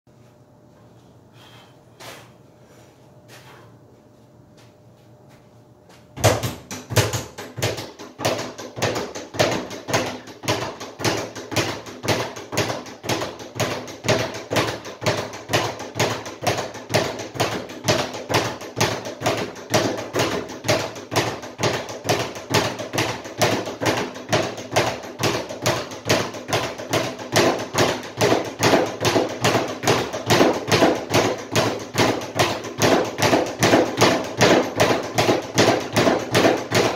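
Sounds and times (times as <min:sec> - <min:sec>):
speed bag taps and thuds: 0:06.2 - 0:36.9.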